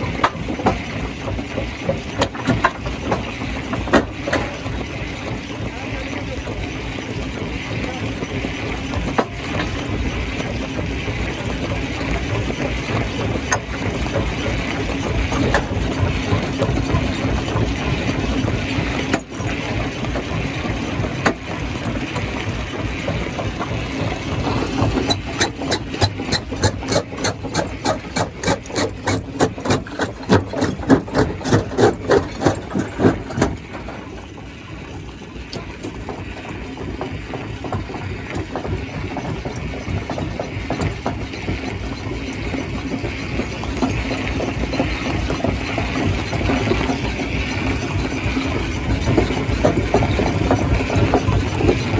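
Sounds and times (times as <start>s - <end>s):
stone crushing machinery drone: 0.0s - 51.9s.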